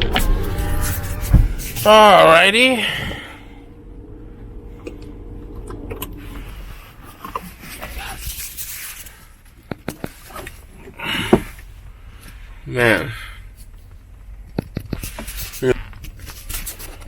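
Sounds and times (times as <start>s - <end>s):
vehicle low hum: 0.0s - 17.0s.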